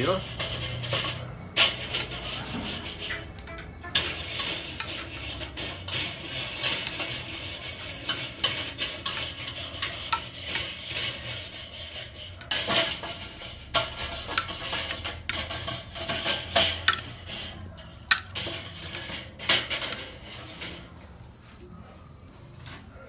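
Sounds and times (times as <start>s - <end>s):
wire brush scrubbing metal grate: 0.0s - 21.1s.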